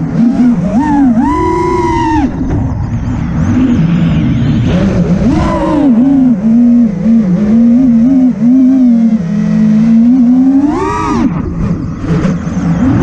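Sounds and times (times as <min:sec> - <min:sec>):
quadcopter motors whining: 0:00.0 - 0:03.9, 0:04.7 - 0:13.0.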